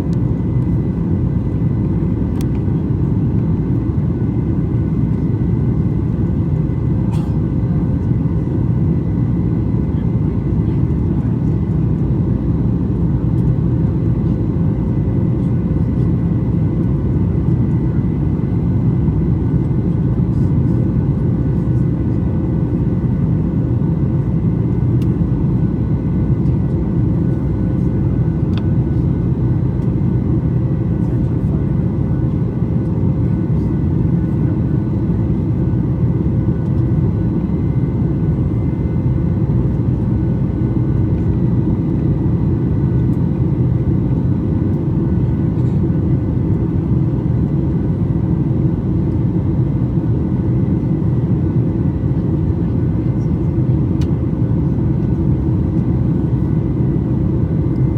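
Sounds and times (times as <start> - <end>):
airliner cabin drone: 0.0 - 57.9.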